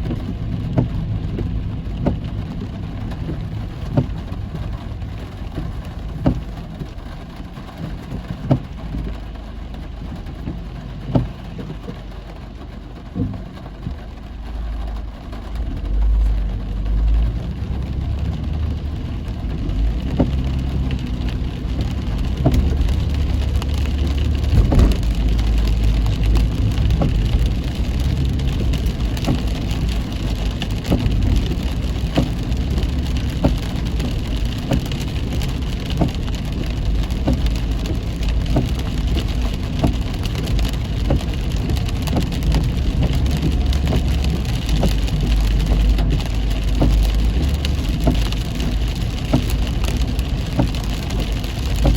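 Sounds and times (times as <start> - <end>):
car rumbling on road: 0.0 - 51.9
rain drops hitting car: 0.0 - 51.9.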